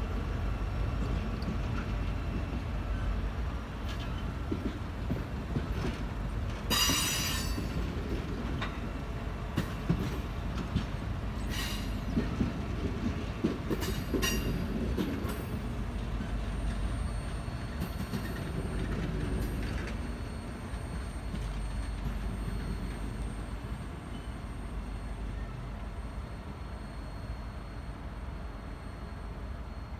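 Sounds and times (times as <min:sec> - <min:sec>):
train wheels rumbling and clacking: 0:00.0 - 0:26.2.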